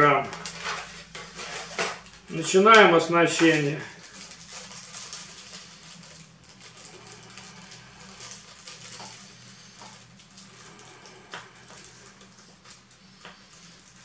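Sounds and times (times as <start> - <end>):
low steady hum: 0.0 - 14.0
plastic bag rustling: 0.0 - 14.0.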